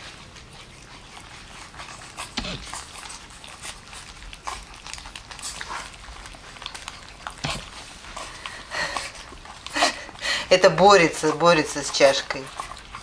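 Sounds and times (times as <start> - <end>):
puppies lapping food: 0.0 - 13.0.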